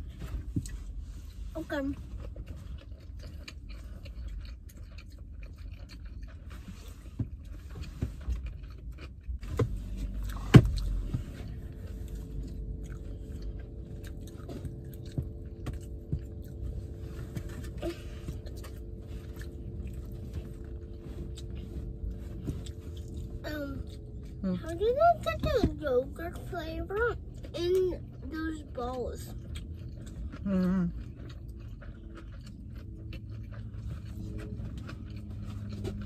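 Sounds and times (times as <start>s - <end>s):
chewing: 0.0s - 36.0s
low rumble: 0.0s - 36.0s
steady low hum: 0.0s - 36.0s.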